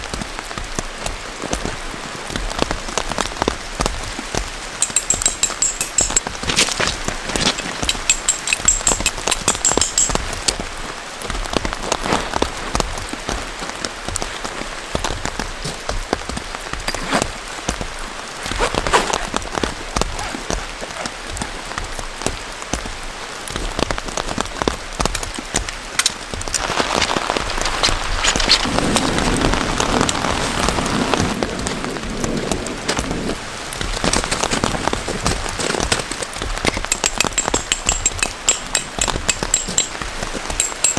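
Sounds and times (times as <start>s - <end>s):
heavy rain patter: 0.0s - 40.9s.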